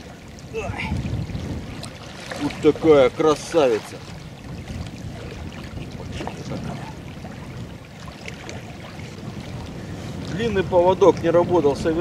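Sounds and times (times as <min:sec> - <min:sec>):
waves lapping at bank: 0:00.0 - 0:12.0
wind buffeting microphone: 0:00.0 - 0:12.0.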